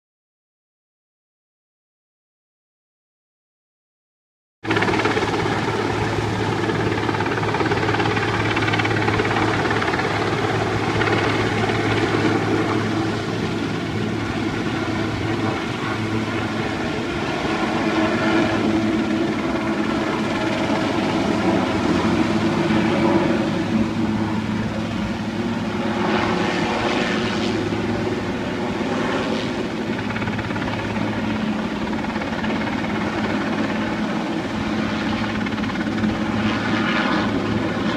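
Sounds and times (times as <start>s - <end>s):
helicopter rotor drone: 4.6s - 37.9s.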